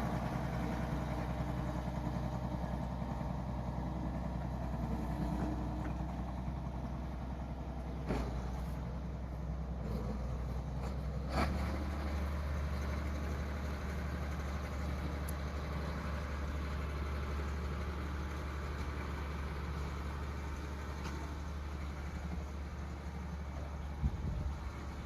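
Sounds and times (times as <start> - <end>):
engine humming: 0.0 - 25.0.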